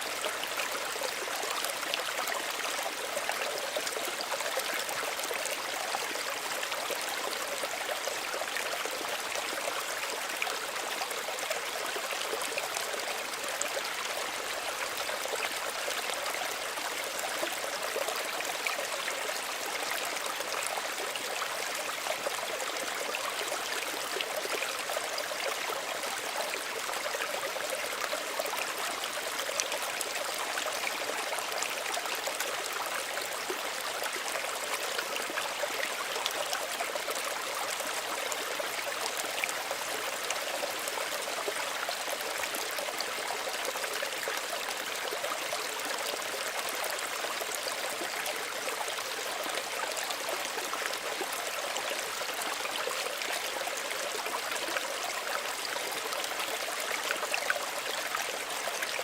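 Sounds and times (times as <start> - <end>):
small stream babbling: 0.0 - 59.0.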